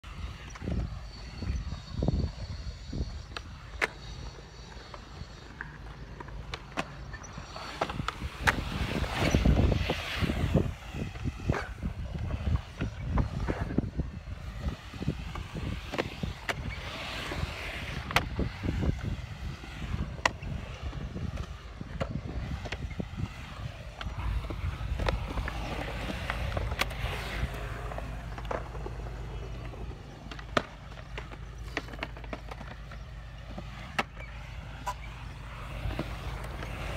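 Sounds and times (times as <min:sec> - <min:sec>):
skateboard wheels rolling on concrete: 0:00.0 - 0:36.9.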